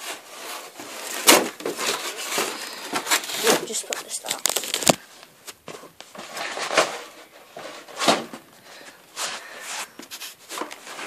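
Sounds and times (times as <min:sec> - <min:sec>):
objects knocking and rustling: 0:00.0 - 0:11.0.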